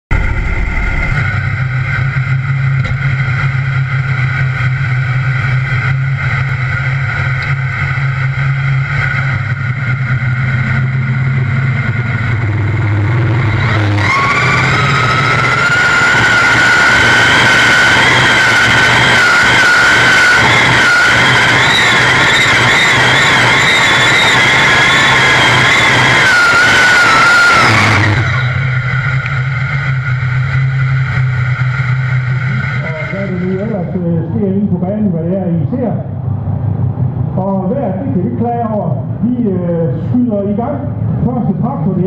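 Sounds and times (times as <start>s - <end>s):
tractor engine idling and revving: 0.0s - 42.0s.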